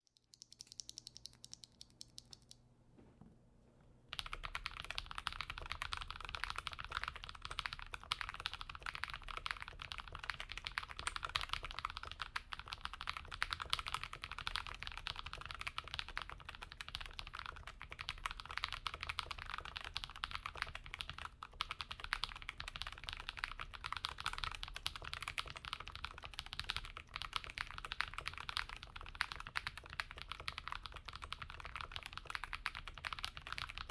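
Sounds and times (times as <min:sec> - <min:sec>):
mechanical keyboard typing: 0:00.1 - 0:02.6, 0:04.1 - 0:33.9.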